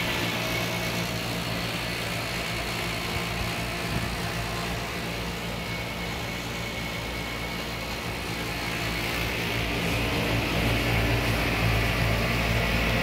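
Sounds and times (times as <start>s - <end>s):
condenser fan air rush: 0.0s - 13.0s
outdoor air conditioner unit humming: 0.0s - 13.0s.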